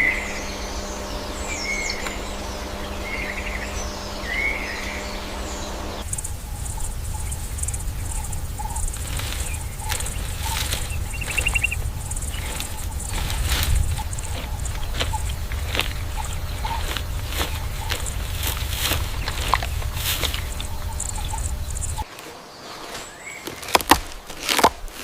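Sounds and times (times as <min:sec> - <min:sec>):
low rumble: 0:00.0 - 0:22.0
pulsing high insect buzz: 0:00.0 - 0:22.1
short chirping bird calls: 0:00.0 - 0:22.1
steady hum: 0:00.0 - 0:22.1.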